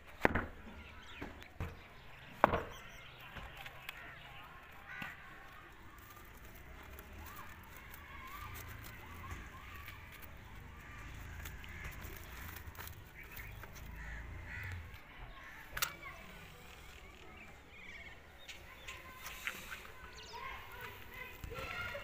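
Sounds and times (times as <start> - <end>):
birds calling: 0.1 - 22.0.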